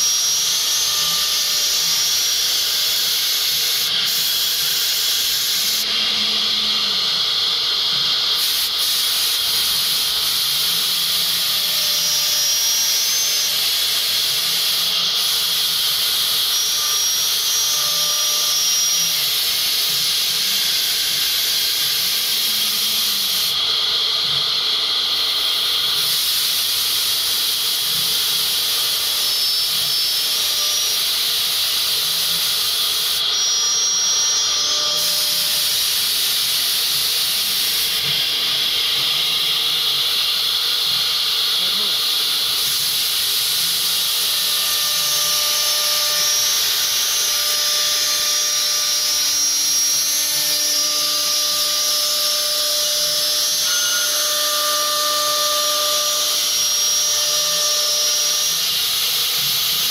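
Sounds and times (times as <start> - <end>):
router bit spinning hiss: 0.0 - 59.9.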